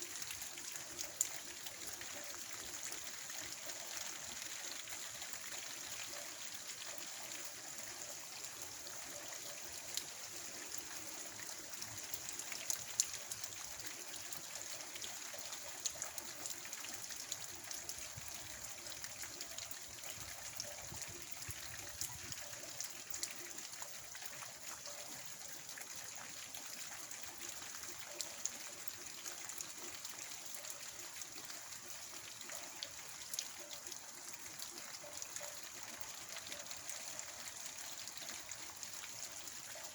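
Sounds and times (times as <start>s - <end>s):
rain falling with soft hiss: 0.0s - 39.9s
trickle of running water: 0.0s - 39.9s.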